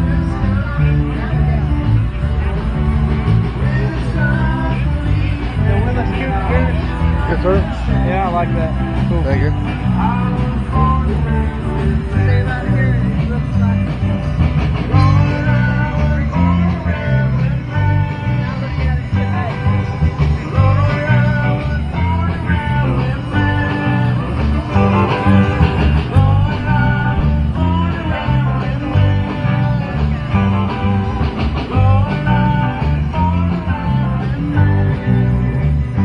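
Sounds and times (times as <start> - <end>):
rock blues music with electric guitar: 0.0 - 36.0.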